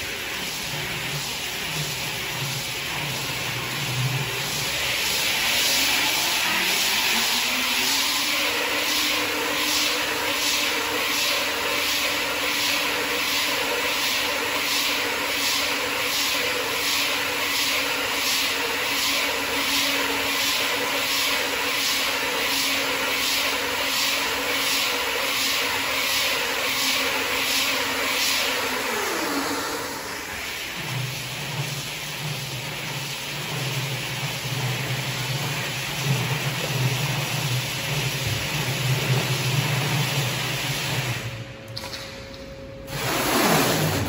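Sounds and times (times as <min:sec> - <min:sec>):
roll-cutting machine running: 0:00.0 - 0:41.4.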